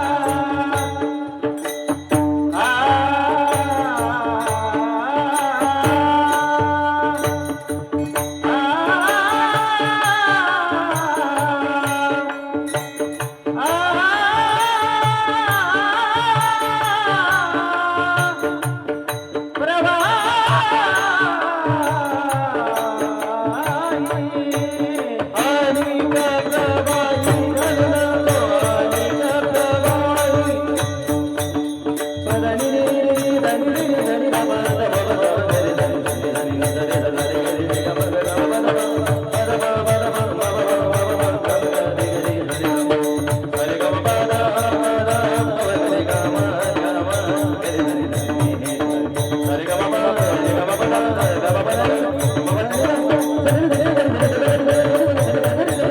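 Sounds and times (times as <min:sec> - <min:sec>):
devotional singing: 0:00.0 - 0:55.9
fast rhythmic beat: 0:00.0 - 0:55.9.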